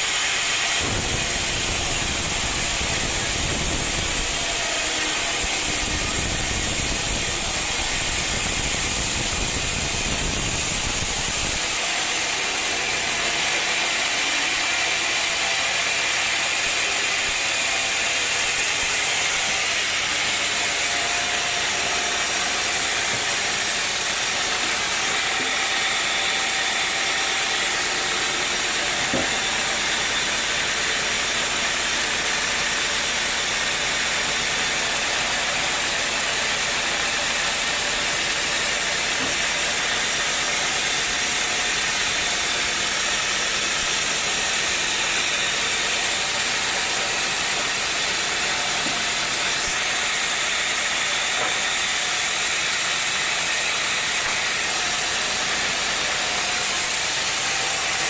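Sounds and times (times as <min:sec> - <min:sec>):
sawmill machinery hissing: 0:00.0 - 0:58.0.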